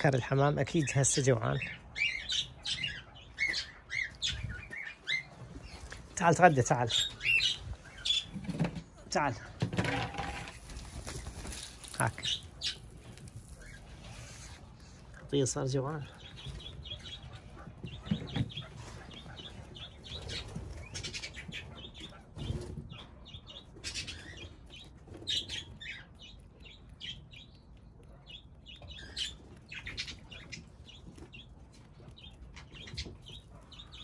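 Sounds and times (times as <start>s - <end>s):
beak pecking seed on stone: 5.7s - 34.0s.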